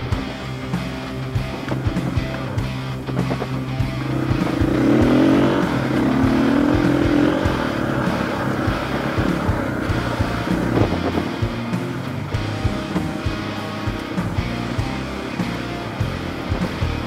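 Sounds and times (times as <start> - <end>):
background music with steady beat: 0.0 - 17.0
dirt bike engine revving: 0.0 - 17.0.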